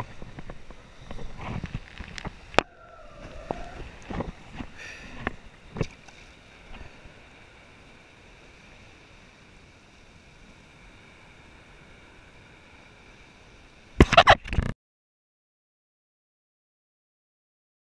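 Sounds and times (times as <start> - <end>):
muffled wind and water hiss: 0.0 - 14.7.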